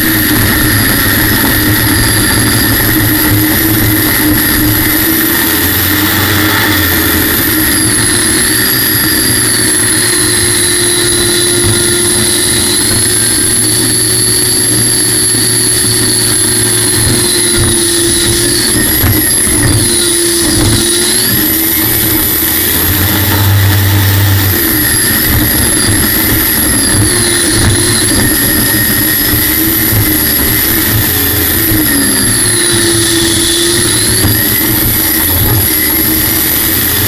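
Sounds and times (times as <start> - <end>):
high-pitched turbine engine whine: 0.0 - 37.0.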